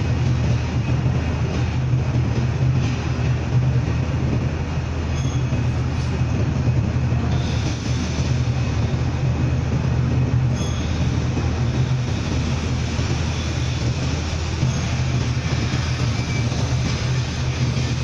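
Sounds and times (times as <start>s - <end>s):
machine hum with rumbling hiss: 0.0s - 18.0s.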